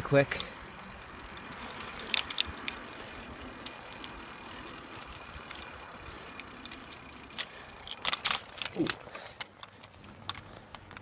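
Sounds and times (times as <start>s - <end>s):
tyres on road: 0.0s - 11.0s
sharp rattling clicks: 1.2s - 11.0s.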